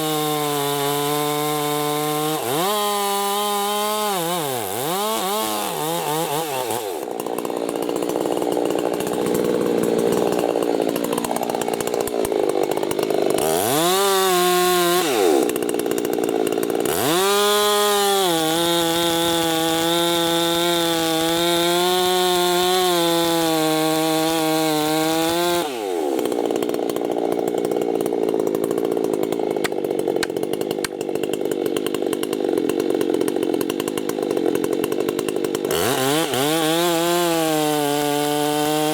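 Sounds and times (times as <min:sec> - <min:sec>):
chainsaw cutting wood: 0:00.0 - 0:38.9
chainsaw engine revving: 0:00.0 - 0:38.9.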